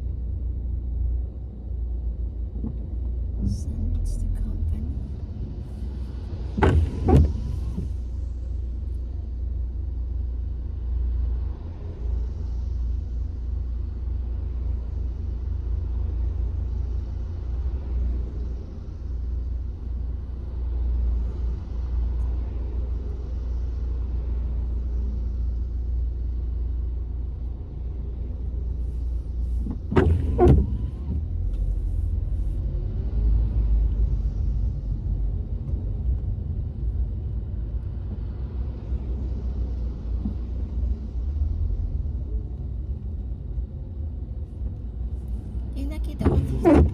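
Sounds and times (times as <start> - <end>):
road rumble inside car: 0.0 - 46.9.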